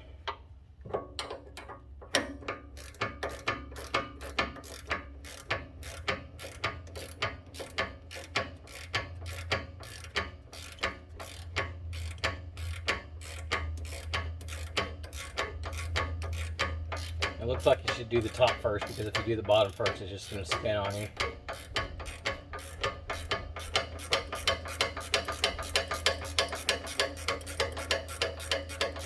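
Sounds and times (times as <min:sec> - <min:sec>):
ratcheting wrench clicking: 0:01.2 - 0:29.0.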